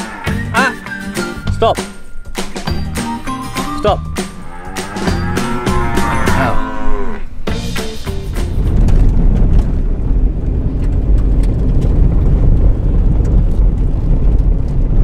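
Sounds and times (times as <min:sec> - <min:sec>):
tyres and engine rumbling: 0:00.0 - 0:15.0.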